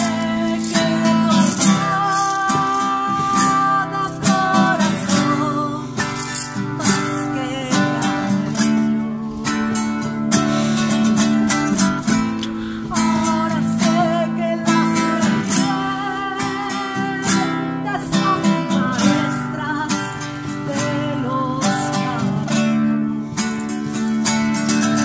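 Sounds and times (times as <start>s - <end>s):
woman singing: 0.0s - 10.5s, 11.2s - 25.0s
strummed acoustic guitar: 0.0s - 25.0s.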